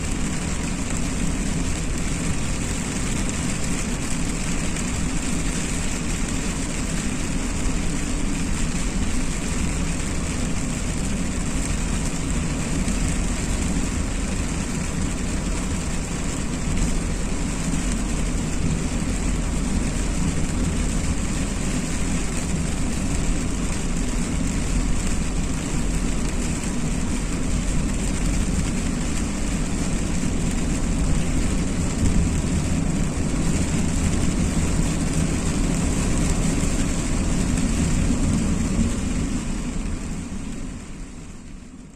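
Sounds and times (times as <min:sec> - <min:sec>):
car engine and tyres rumbling: 0:00.0 - 0:41.9
rain hissing: 0:00.0 - 0:41.9.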